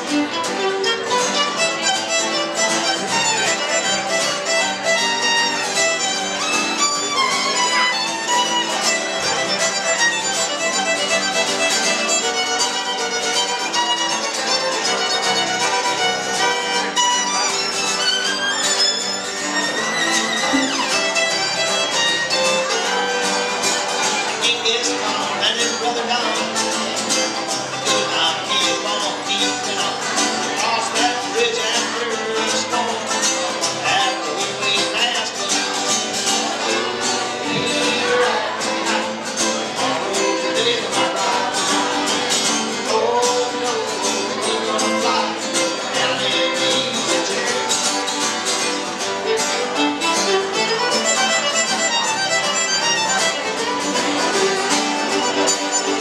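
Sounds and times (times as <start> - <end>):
acoustic guitar: 0.0 - 56.0
banjo: 0.0 - 56.0
fiddle: 0.0 - 56.0.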